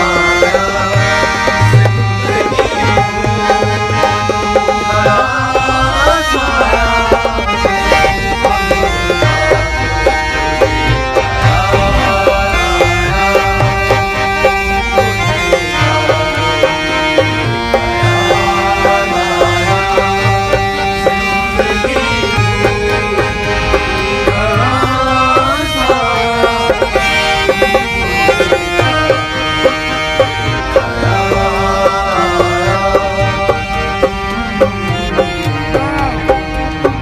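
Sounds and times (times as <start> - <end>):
man singing: 0.0 - 37.0
sustained held chords: 0.0 - 37.0.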